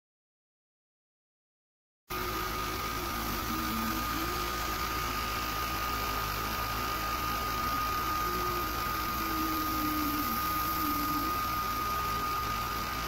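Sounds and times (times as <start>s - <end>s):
constant high whine: 2.1s - 13.0s
fan and air hiss: 2.1s - 13.0s
stepper motors whirring: 2.1s - 13.0s.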